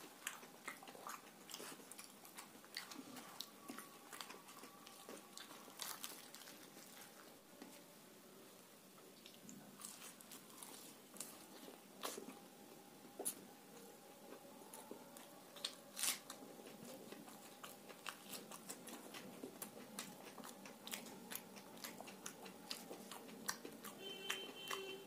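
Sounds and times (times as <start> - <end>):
person chewing crunchy food: 0.0 - 7.3, 9.2 - 12.5, 14.2 - 25.0.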